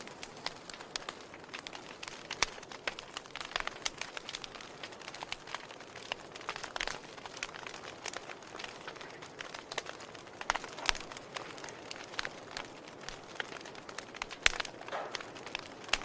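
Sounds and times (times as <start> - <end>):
burning wood crackling and popping: 0.0 - 16.0
fire hissing: 0.0 - 16.0.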